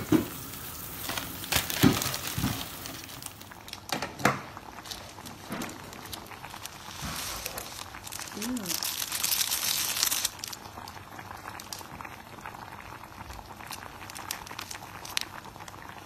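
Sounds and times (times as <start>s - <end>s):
boiling water hiss: 0.0s - 16.0s
packaging crinkling: 0.1s - 4.0s, 4.6s - 12.1s, 12.8s - 15.9s.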